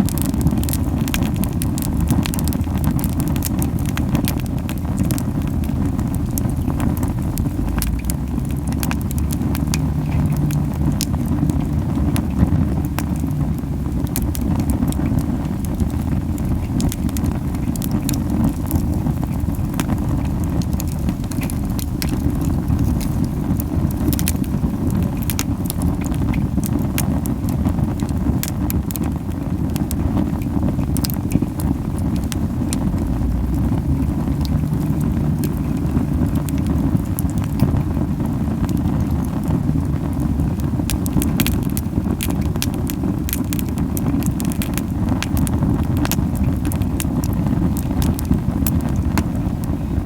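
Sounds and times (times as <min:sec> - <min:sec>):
campfire crackling and popping: 0:00.0 - 0:50.0
flames rumbling: 0:00.0 - 0:50.0.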